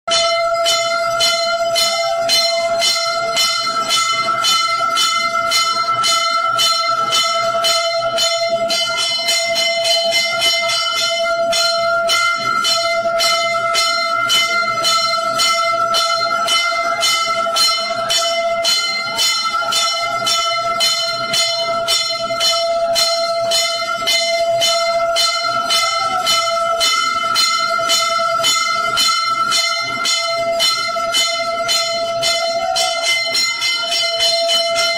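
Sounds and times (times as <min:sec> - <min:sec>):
bells ringing: 0:00.1 - 0:34.9.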